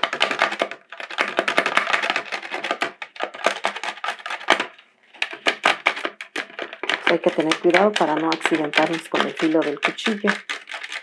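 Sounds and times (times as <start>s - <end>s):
knife scraping plastic bucket: 0.0s - 11.0s.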